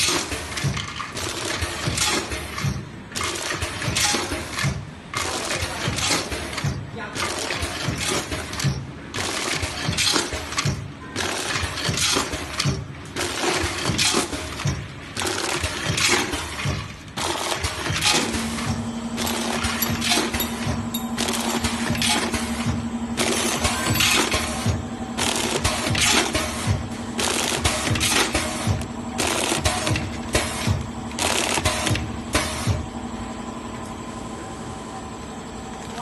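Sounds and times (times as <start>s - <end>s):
bagging machine clattering: 0.0s - 32.9s.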